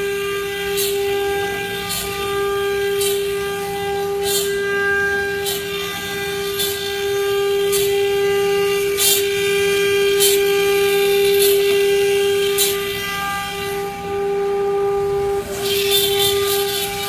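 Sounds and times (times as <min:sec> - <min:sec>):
wood carving machine whine: 0:00.0 - 0:17.0.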